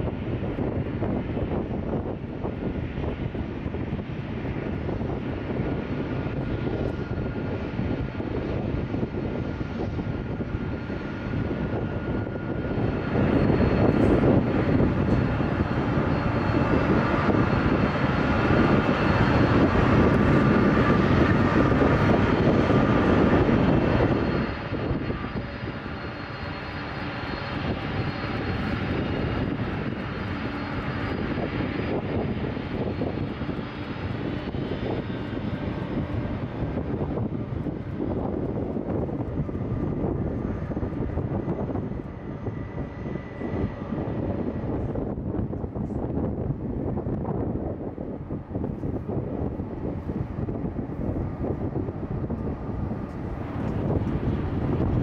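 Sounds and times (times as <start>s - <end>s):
airliner engines rumbling: 0.0s - 55.0s
thin engine whine: 0.0s - 55.0s.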